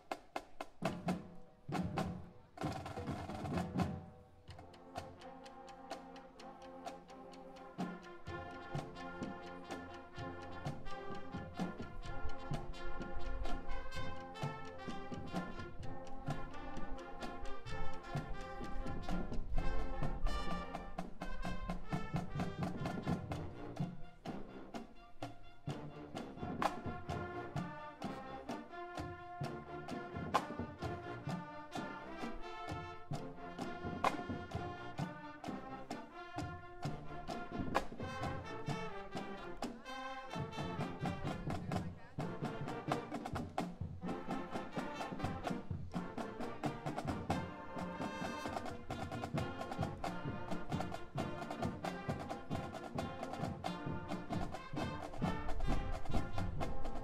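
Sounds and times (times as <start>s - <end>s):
drums keeping steady beat: 0.0s - 57.0s
marching band playing: 0.0s - 57.0s.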